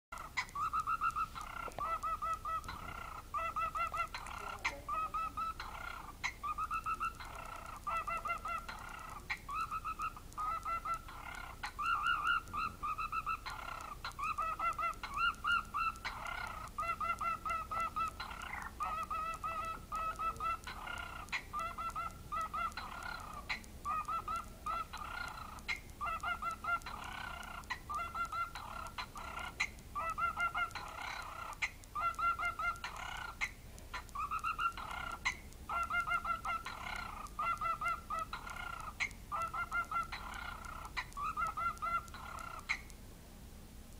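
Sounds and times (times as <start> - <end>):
cockatiel beeping: 0.2 - 42.9.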